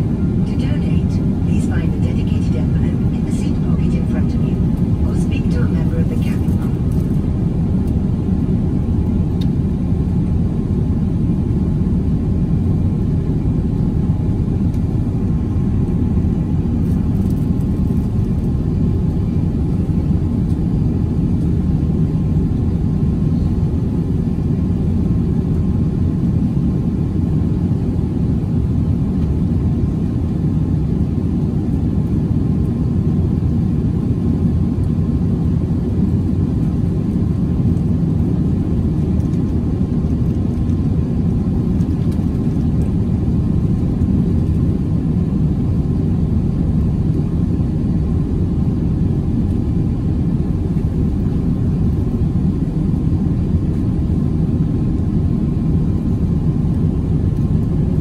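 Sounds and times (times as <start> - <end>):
jet engines at climb power: 0.0 - 58.0.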